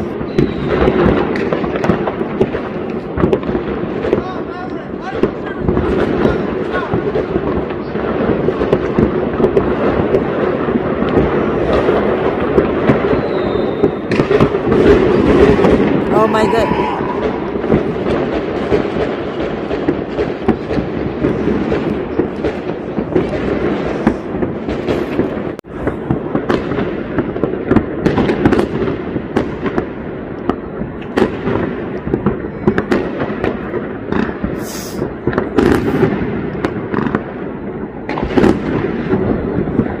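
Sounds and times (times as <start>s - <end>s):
fireworks crackling: 0.0s - 40.0s
sharp fireworks bangs: 0.0s - 40.0s.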